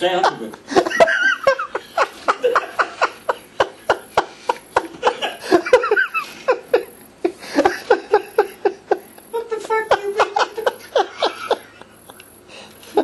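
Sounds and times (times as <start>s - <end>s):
men laughing breathily: 0.1s - 13.0s.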